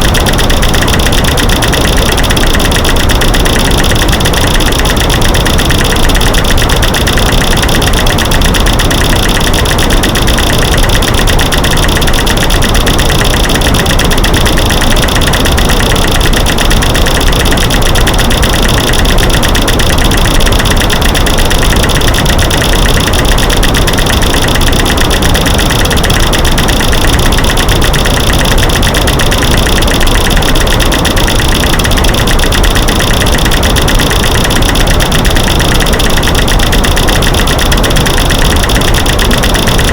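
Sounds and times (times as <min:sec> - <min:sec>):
dense clicking and knocking: 0:00.0 - 0:39.9.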